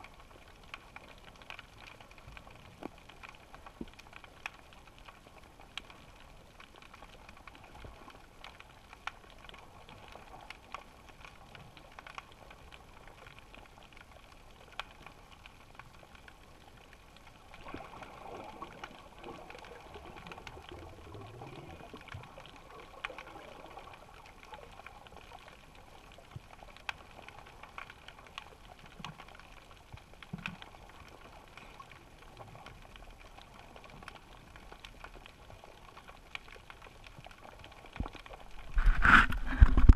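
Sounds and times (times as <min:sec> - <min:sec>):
sharp clicks and crackles: 0:00.0 - 0:39.9.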